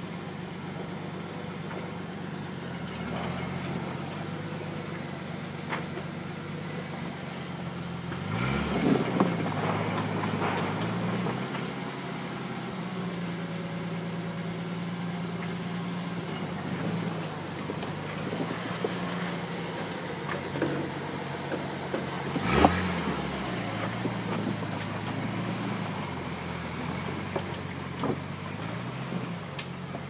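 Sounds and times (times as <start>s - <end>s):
off-road vehicle engine: 0.0s - 30.0s.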